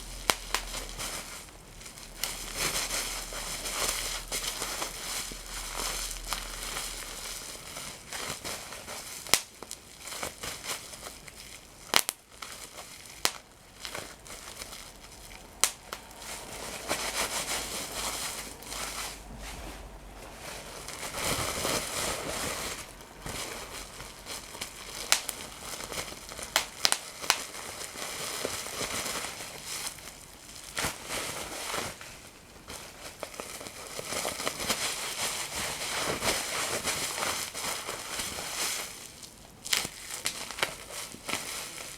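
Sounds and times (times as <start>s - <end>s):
paper crinkling: 0.0s - 41.9s.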